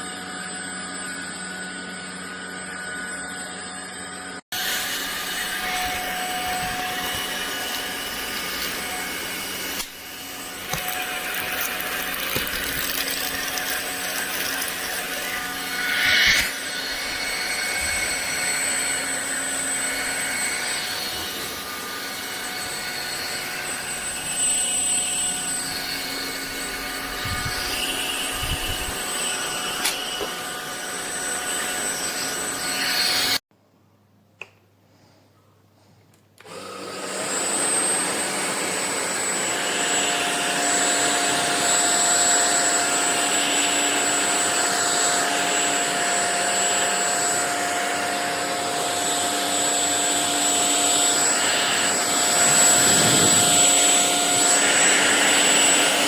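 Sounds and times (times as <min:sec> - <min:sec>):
stick vacuum motor whine: 0:00.0 - 0:33.4, 0:36.4 - 0:56.0.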